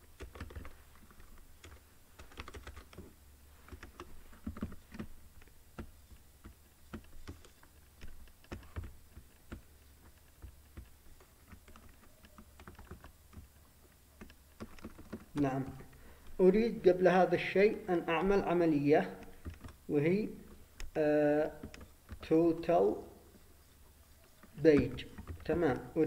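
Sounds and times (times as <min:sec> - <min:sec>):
keyboard typing: 0:00.0 - 0:16.9, 0:17.6 - 0:26.0
low steady hum: 0:00.0 - 0:26.0.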